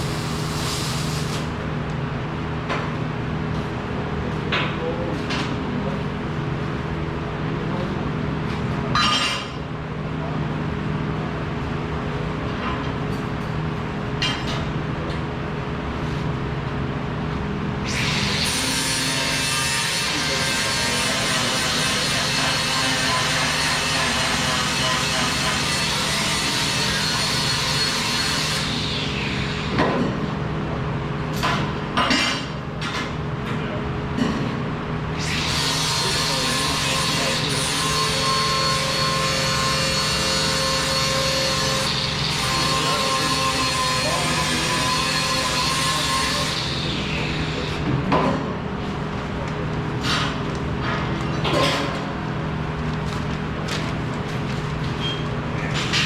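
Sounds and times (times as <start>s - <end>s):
workshop machinery humming: 0.0s - 56.0s.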